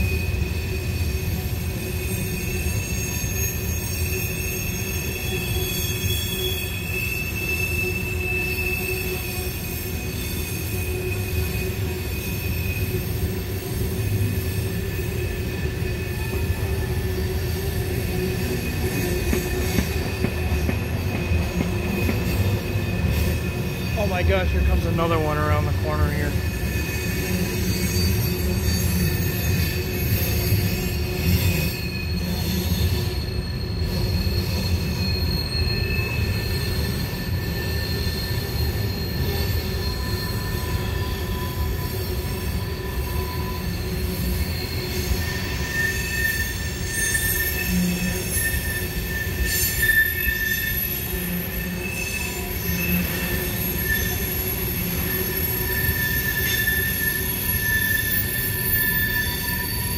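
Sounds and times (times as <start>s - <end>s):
wheel squeal: 0.0s - 24.4s, 26.2s - 59.9s
train wheels rumbling on rail: 0.0s - 59.9s.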